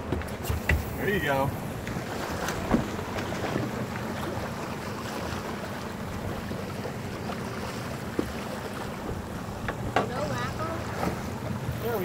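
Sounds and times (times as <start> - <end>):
boat engine idling: 0.0 - 12.0
water washing: 0.0 - 12.0.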